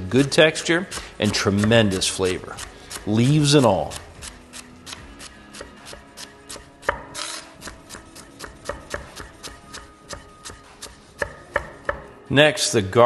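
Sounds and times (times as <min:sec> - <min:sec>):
knife slicing celery on wood: 0:00.3 - 0:12.1.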